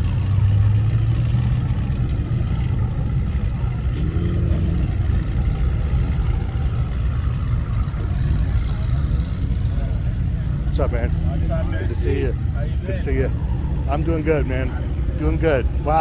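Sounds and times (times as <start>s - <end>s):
car engines rumbling: 0.0s - 16.0s.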